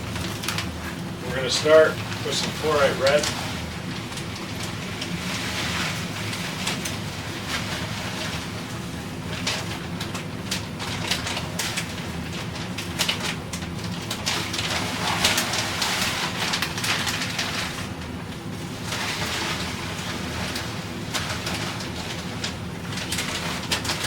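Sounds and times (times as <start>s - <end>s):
gravel grains pouring and rattling: 0.0s - 24.0s.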